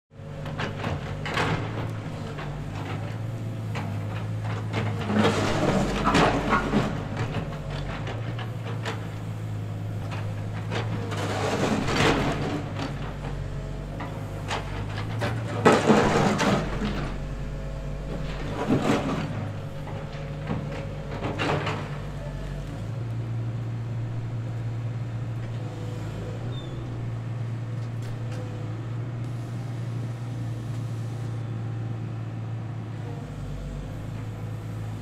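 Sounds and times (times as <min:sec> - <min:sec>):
excavator diesel engine running: 0:00.2 - 0:35.0.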